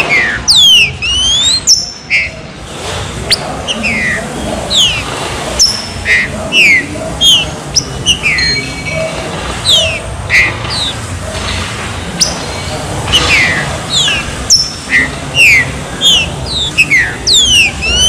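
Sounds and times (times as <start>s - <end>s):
bird whistling song: 0.0s - 2.5s, 3.3s - 11.6s, 12.2s - 18.0s.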